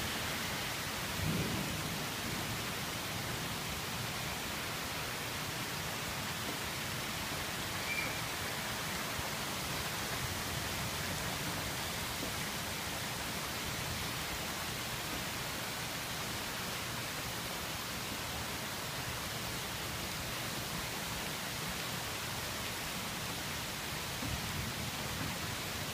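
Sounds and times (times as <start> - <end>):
heavy rain on trees: 0.0 - 25.9.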